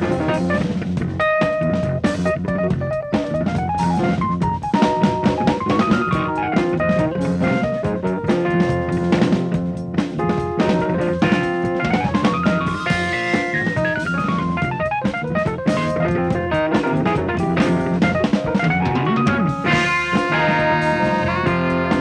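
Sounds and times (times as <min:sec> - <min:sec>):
busy drum kit: 0:00.0 - 0:22.0
jazz fusion band playing: 0:00.0 - 0:22.0.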